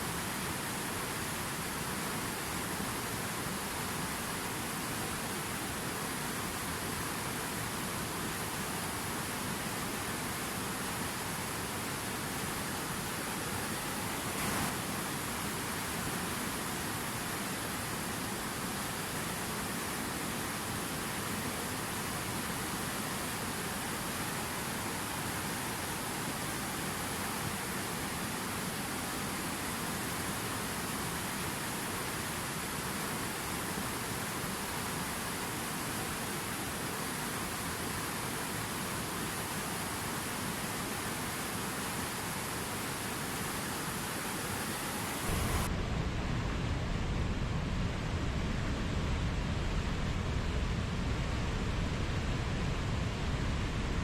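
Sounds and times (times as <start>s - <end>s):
river water rushing: 0.0s - 53.8s.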